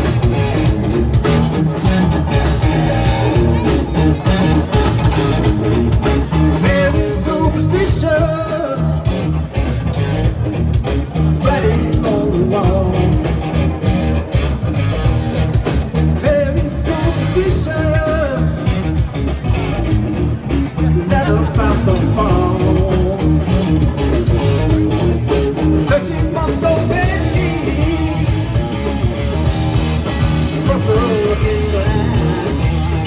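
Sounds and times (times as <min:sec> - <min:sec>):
bass guitar: 0:00.0 - 0:33.0
drum kit beat: 0:00.0 - 0:33.0
electric guitar: 0:00.0 - 0:33.0.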